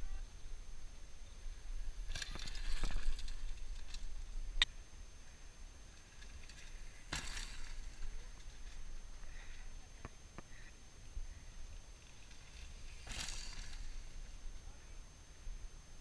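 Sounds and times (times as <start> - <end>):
bike tyres on loose dirt: 0.0 - 16.0.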